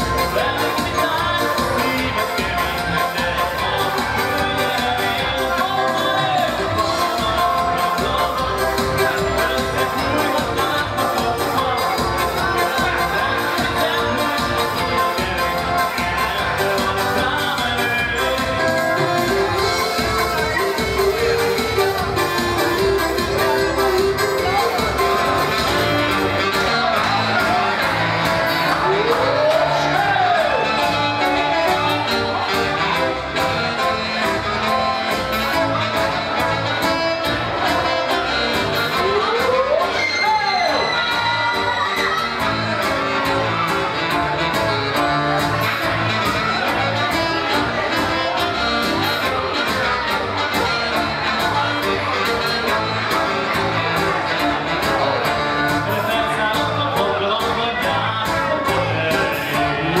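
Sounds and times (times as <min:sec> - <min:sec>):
keyboards: 0:00.0 - 1:00.0
live dance band music: 0:00.0 - 1:00.0.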